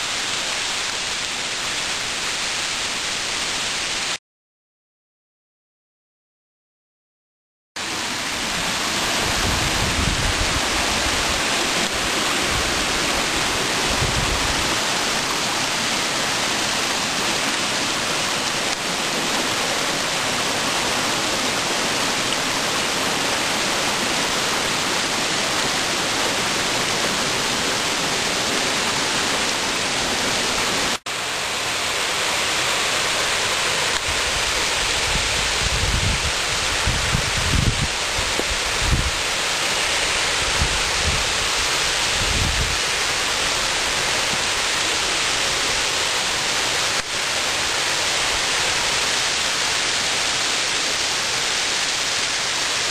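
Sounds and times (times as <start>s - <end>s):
waterfall rushing: 0.0s - 4.2s, 7.8s - 52.9s.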